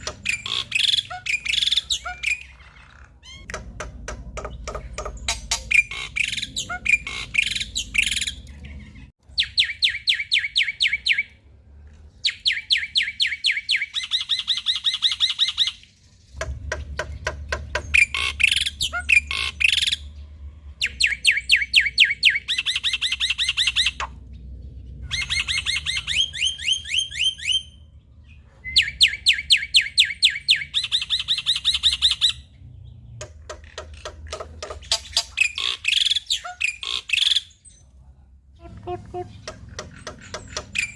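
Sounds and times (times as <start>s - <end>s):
bird singing rattling phrases: 0.0s - 40.9s.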